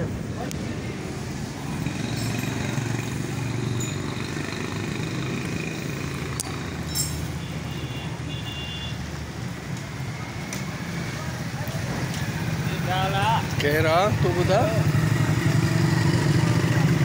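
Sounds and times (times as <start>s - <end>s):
traffic on wet street: 0.0s - 17.0s.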